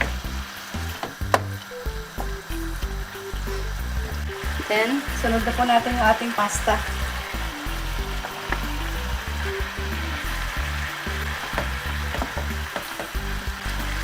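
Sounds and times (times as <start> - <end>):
background music with bass: 0.0 - 14.0
sauce sizzling in frying pan: 0.0 - 14.0.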